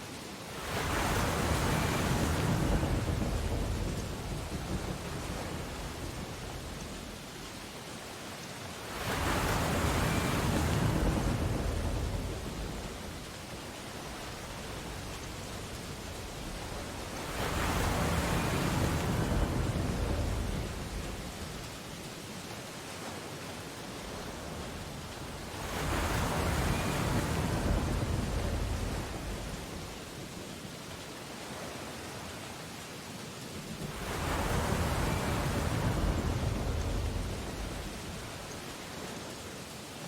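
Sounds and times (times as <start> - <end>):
ocean waves breaking: 0.0 - 30.5, 31.3 - 39.7
steady wash of surf: 0.0 - 40.0.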